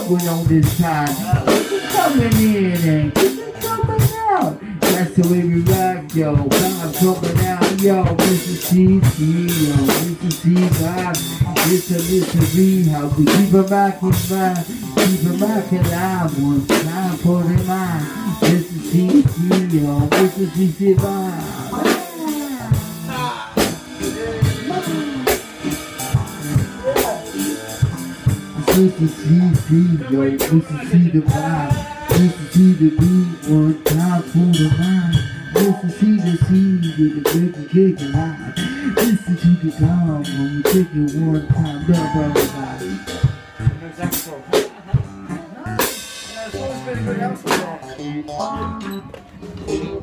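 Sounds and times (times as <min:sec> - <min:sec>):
drum and cymbal hits: 0:00.0 - 0:47.8
bass line: 0:00.0 - 0:50.0
live band playing: 0:00.0 - 0:50.0.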